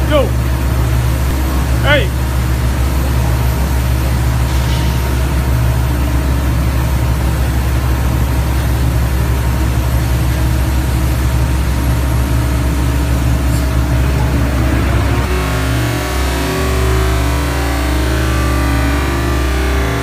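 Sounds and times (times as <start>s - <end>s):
drill rig engine drone: 0.0s - 20.0s.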